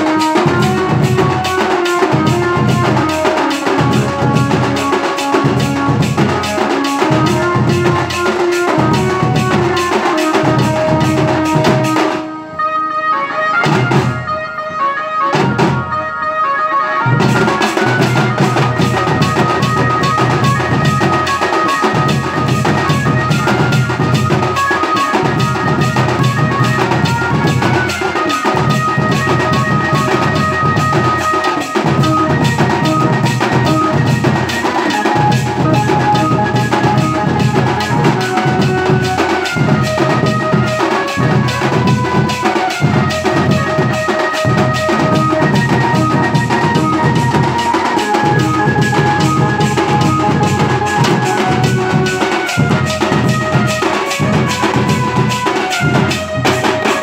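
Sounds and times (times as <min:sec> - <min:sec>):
drums beaten in fast rhythm: 0:00.0 - 0:57.0
melody in held notes: 0:00.0 - 0:57.0.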